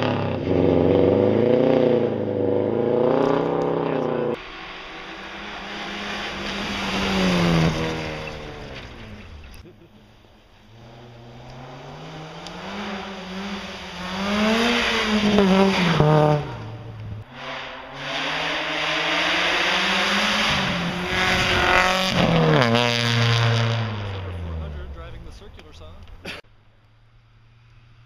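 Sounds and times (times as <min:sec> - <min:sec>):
rally cars passing at full throttle: 0:00.0 - 0:26.2.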